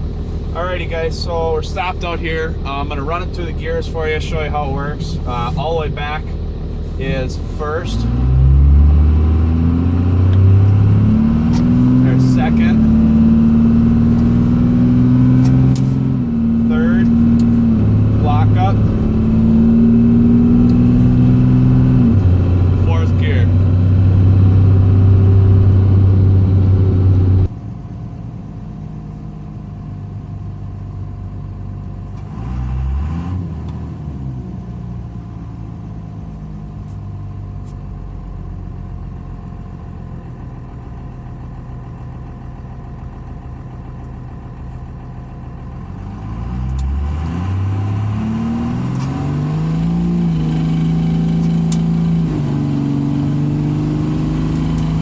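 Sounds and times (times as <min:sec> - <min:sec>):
diesel engine running and revving: 0:00.0 - 0:55.0.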